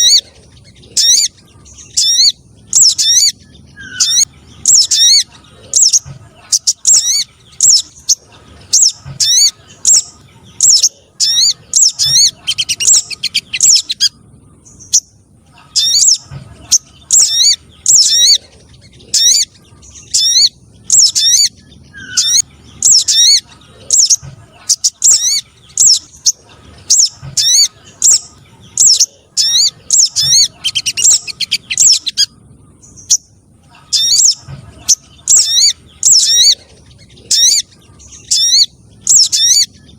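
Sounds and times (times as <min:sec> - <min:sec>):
rapid sharp high bird chirps: 0:00.0 - 0:33.3, 0:33.9 - 0:39.9.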